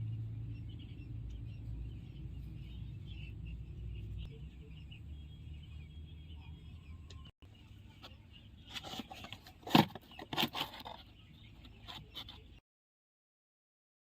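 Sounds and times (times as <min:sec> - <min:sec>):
chickens clucking: 0:00.6 - 0:12.6.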